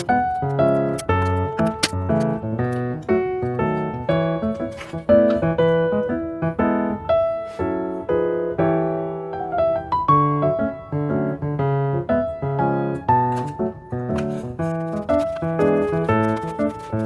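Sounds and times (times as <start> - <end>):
bright piano melody: 0.0 - 17.0.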